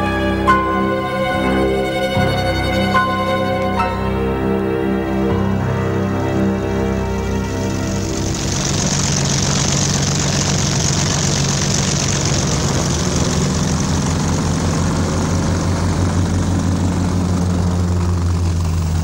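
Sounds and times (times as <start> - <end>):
low engine drone: 0.0 - 19.0
propeller hiss: 0.0 - 19.0.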